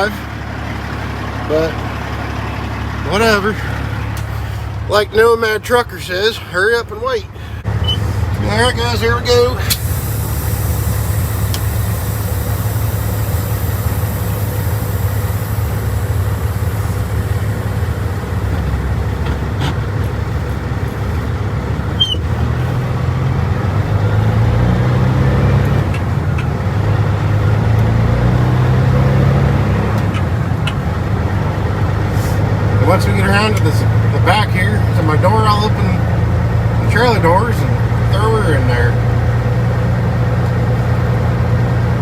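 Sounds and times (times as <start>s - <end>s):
truck diesel engine pulling: 0.0s - 42.0s.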